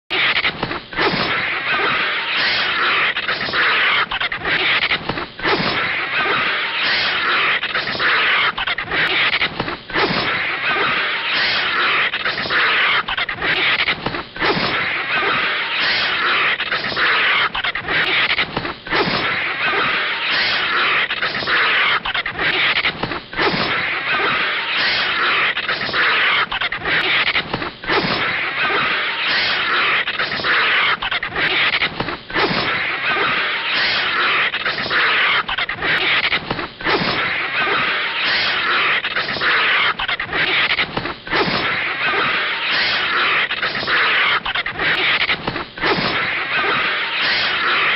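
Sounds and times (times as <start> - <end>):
harsh pulsing animal sound: 0.1 - 47.9.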